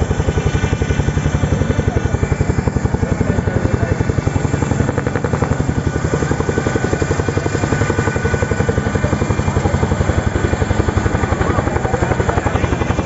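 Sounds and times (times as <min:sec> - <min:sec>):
helicopter rotor blades beating: 0:00.0 - 0:13.0.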